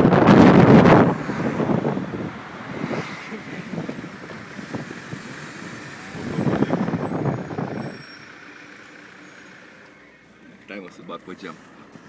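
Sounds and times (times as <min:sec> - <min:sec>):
car driving on street: 0:00.0 - 0:12.0.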